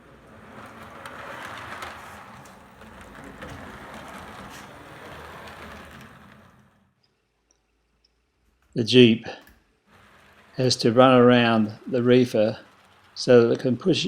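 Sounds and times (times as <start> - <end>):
model train motor whirring: 0.0 - 7.0, 9.4 - 14.0
wheels clicking over rail joints: 0.0 - 14.0.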